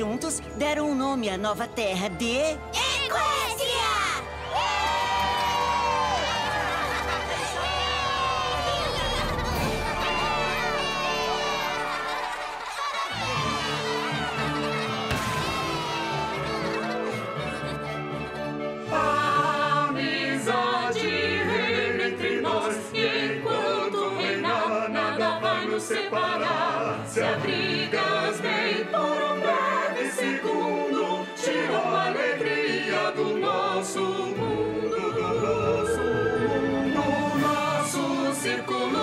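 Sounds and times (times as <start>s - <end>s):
orchestral accompaniment: 0.0s - 39.0s
choir singing: 4.2s - 39.0s.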